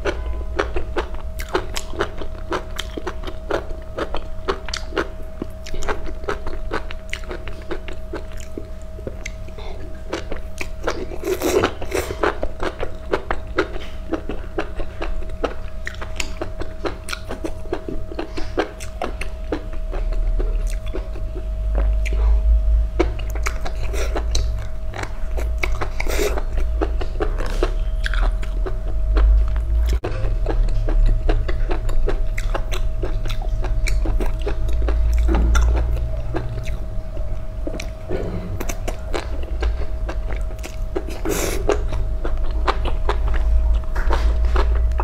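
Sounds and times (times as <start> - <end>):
crunchy chewing: 0.0 - 22.4, 23.0 - 45.0
low hum: 0.0 - 45.0.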